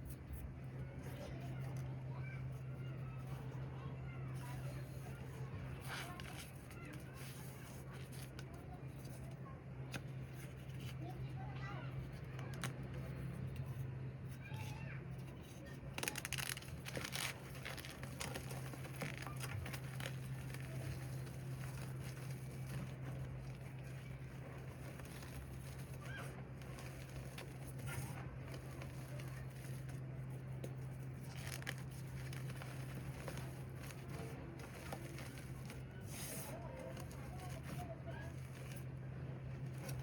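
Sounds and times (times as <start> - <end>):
cornstarch squeaking and crunching: 0.0 - 40.0.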